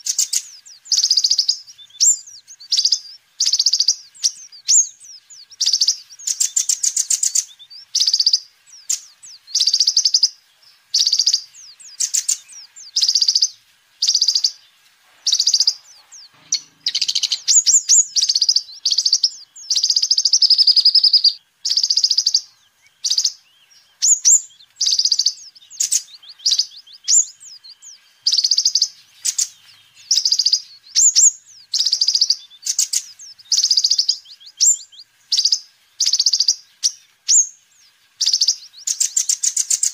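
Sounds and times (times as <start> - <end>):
bird twittering chirps: 0.0 - 39.9.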